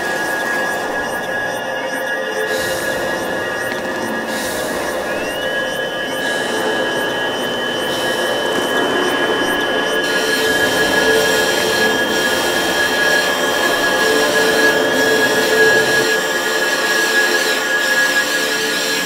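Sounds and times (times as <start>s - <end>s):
dense noise drone: 0.0s - 19.0s
high held tones: 0.0s - 19.0s.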